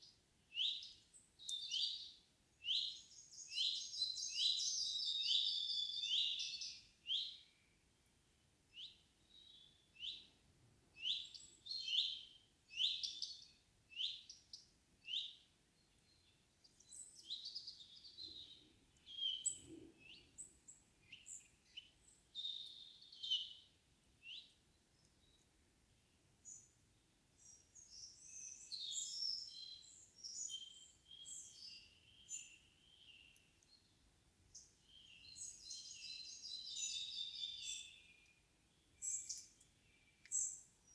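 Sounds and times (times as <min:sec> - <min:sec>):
small songbirds singing: 0:00.0 - 0:40.9.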